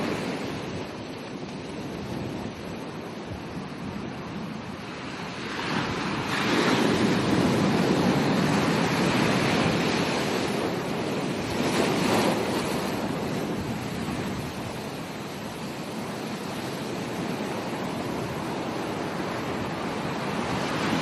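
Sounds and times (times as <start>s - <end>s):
ocean waves breaking on a beach: 0.0s - 21.0s.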